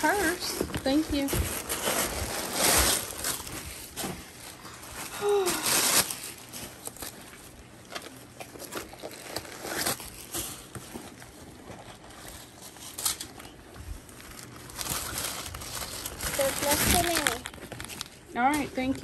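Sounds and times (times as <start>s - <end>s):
tissue paper and plastic crinkling: 0.0s - 19.0s.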